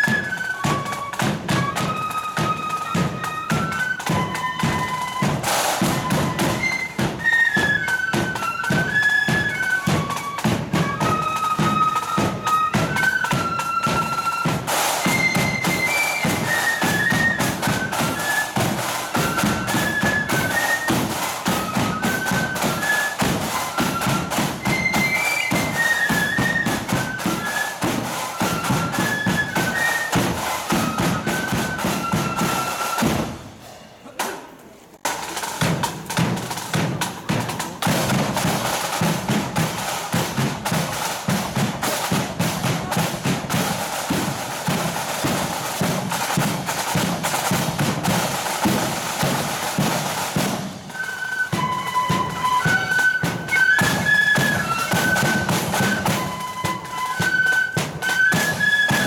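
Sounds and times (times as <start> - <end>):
flutes playing a tune: 0.0 - 33.5, 36.2 - 59.0.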